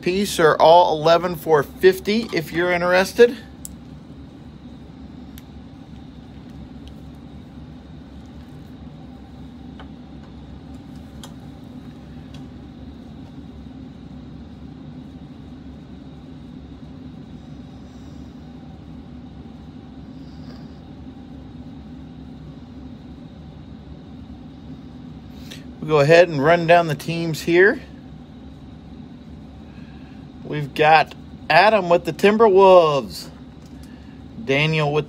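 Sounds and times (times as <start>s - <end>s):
faint high whine: 0.0s - 35.0s.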